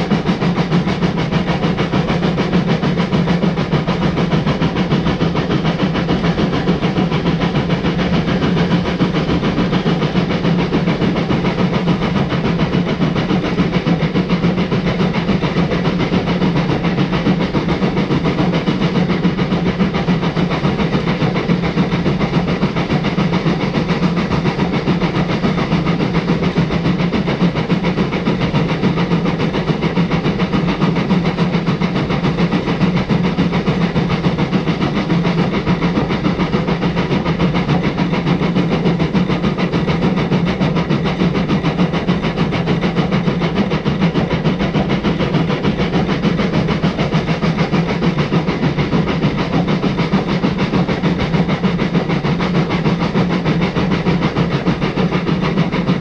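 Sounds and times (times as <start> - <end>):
steam train running: 0.0 - 56.0
wheels rumbling on track: 0.0 - 56.0.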